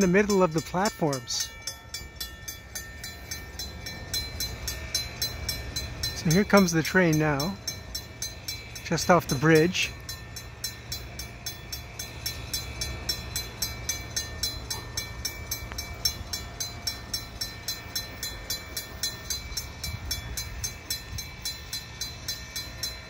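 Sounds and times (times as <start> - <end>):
approaching train rumble: 0.0 - 23.0
level crossing bell ringing: 0.0 - 23.0.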